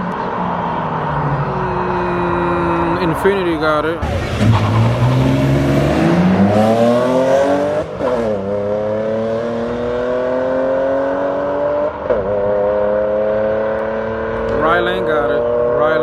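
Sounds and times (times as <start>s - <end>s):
car engine accelerating hard: 1.4s - 16.0s.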